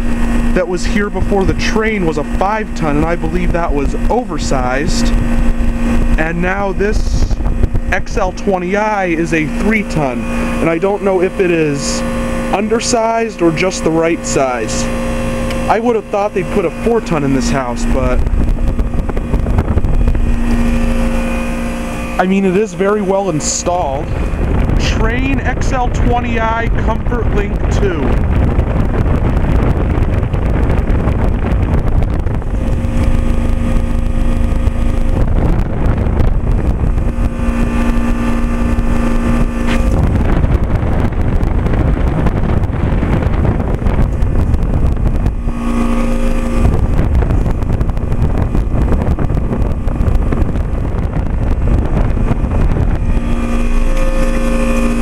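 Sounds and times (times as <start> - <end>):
compressor hum: 0.0 - 55.0
fan air rushing: 0.0 - 55.0.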